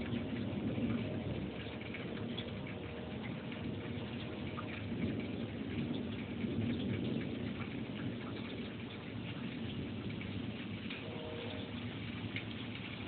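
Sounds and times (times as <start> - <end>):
rain hissing: 0.0 - 13.0
raindrops ticking on surface: 0.0 - 13.0.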